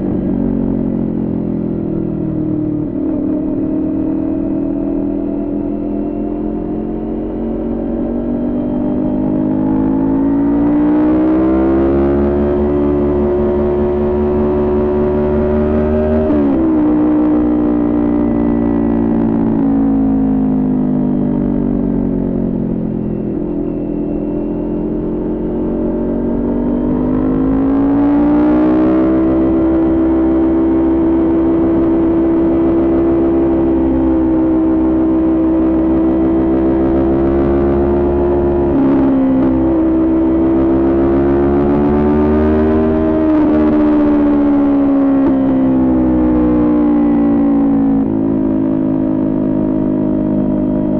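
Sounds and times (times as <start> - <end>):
motorcycle engine under way: 0.0 - 50.9.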